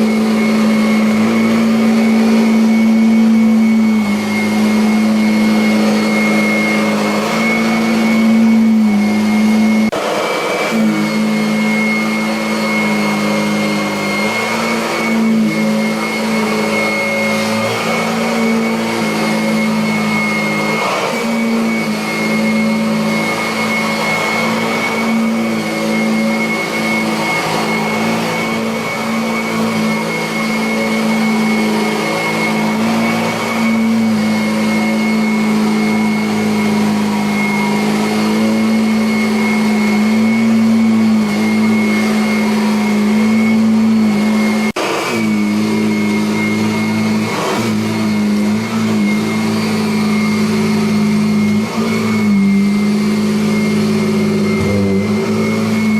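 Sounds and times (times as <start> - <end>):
vacuum cleaner running on carpet: 0.0 - 55.9.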